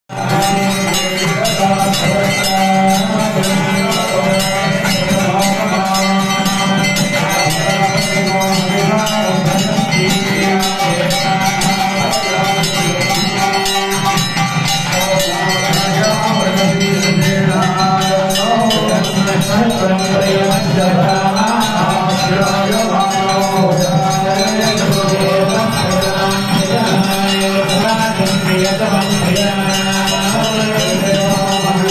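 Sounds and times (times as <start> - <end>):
bell rung rapidly: 0.1 - 31.9
men singing a hymn: 0.2 - 31.9.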